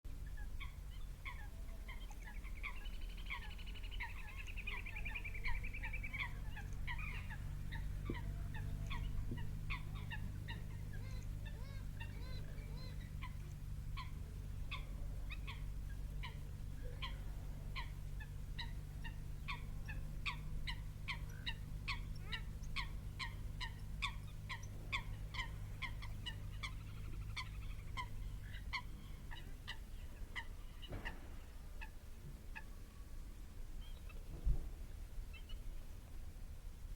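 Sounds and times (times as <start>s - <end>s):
steady low hum: 0.1s - 36.9s.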